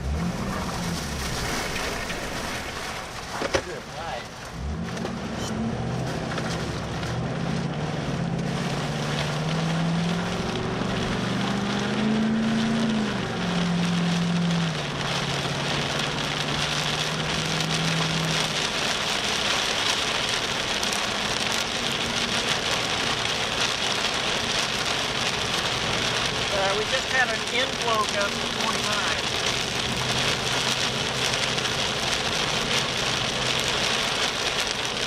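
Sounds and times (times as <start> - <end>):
rain hissing: 0.0 - 35.0
vehicle engine running: 0.0 - 35.0.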